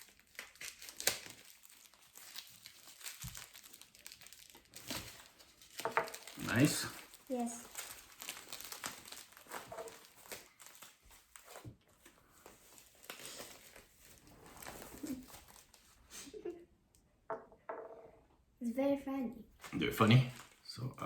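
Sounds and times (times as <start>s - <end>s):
packaging rustling and crinkling: 0.0s - 16.0s, 19.6s - 20.6s.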